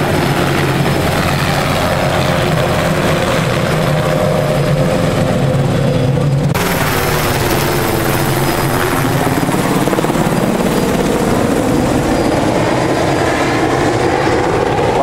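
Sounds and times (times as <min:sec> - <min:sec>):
helicopter rotor beating: 0:00.0 - 0:15.0.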